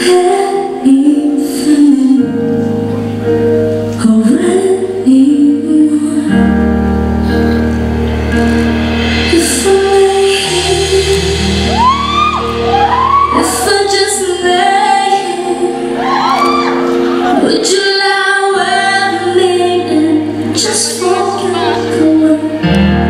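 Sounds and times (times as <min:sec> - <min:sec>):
woman singing into microphone: 0:00.0 - 0:02.9, 0:03.8 - 0:07.0, 0:09.3 - 0:23.0.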